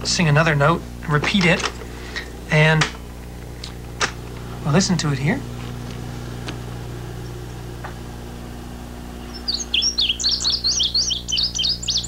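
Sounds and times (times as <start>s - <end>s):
steady hum: 0.0s - 12.0s
tape hiss: 0.0s - 12.0s
bird song high sweeping notes: 2.2s - 12.0s.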